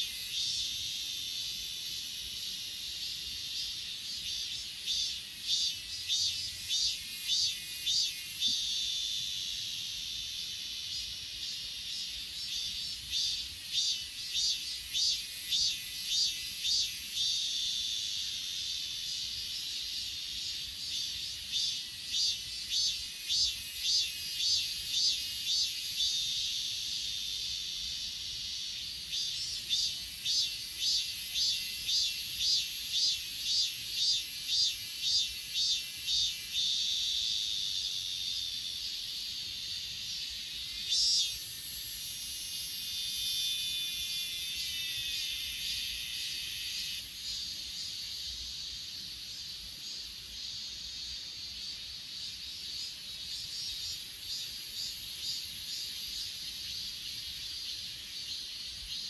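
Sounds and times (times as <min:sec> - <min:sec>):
insect buzz: 0:00.0 - 0:59.0
insects chirping: 0:00.0 - 0:59.0.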